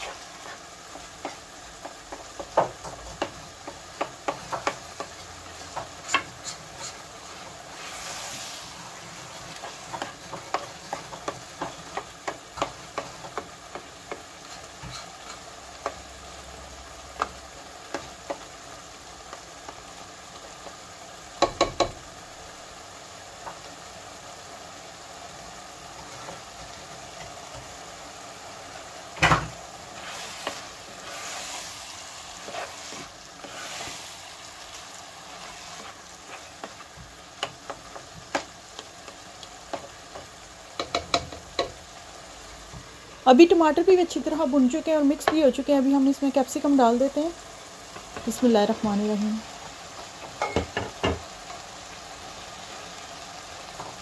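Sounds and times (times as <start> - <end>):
low sizzle: 0.0 - 54.0.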